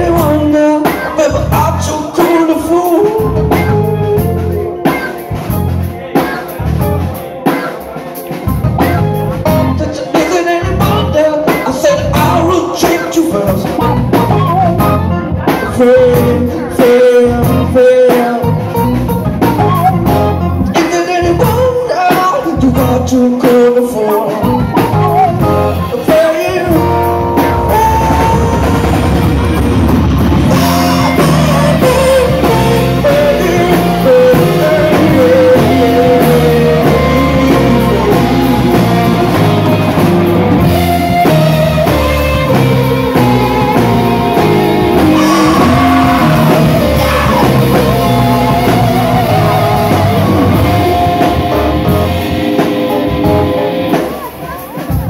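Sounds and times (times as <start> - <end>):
person singing: 0.0 - 29.7, 30.4 - 55.0
drum kit: 0.0 - 55.0
electric guitar: 0.0 - 55.0.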